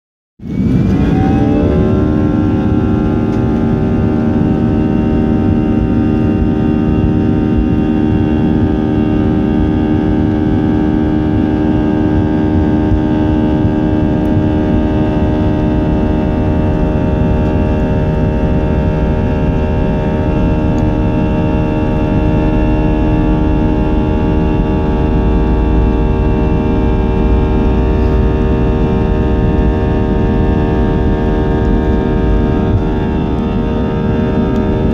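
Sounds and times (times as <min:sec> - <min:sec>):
jet engine whine: 0:00.4 - 0:34.9
low engine rumble: 0:00.4 - 0:34.9.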